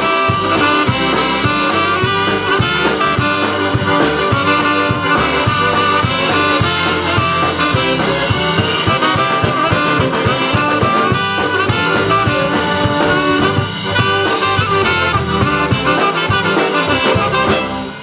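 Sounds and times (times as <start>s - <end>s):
bass guitar: 0.0s - 18.0s
drum beat: 0.0s - 18.0s
saxophone: 0.0s - 18.0s
trumpet: 0.0s - 18.0s.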